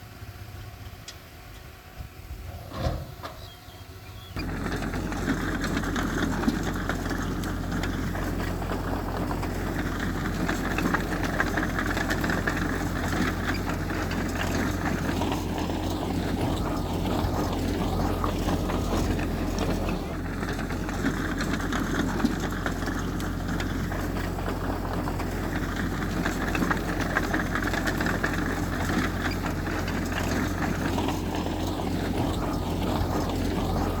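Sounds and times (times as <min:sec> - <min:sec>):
diesel machinery engine running: 0:00.0 - 0:34.0.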